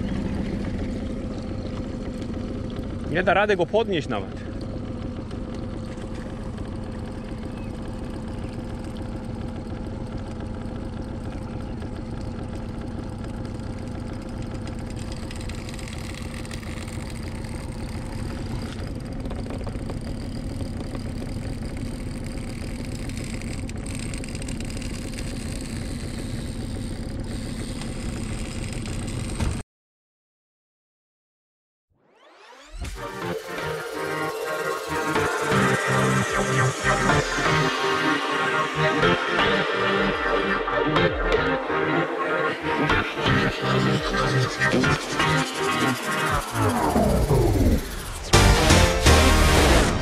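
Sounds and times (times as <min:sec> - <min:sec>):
small boat motor humming: 0:00.0 - 0:29.6, 0:32.2 - 0:50.0.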